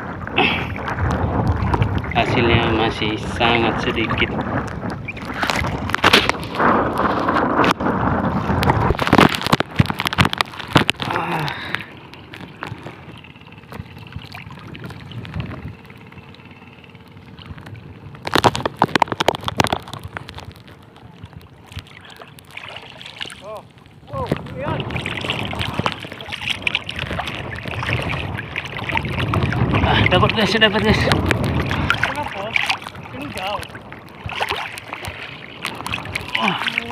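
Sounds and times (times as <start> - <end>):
water gurgling and splashing: 0.0 - 36.9
wind buffeting microphone: 0.0 - 36.9.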